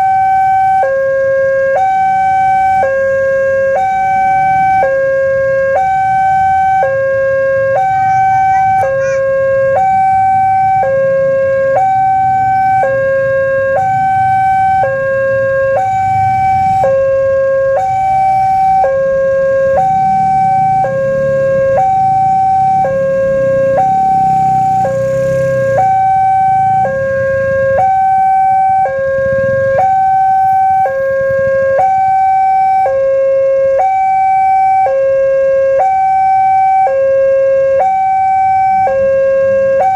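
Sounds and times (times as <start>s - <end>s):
low traffic rumble: 0.0s - 39.9s
two-tone level crossing alarm: 0.0s - 39.9s.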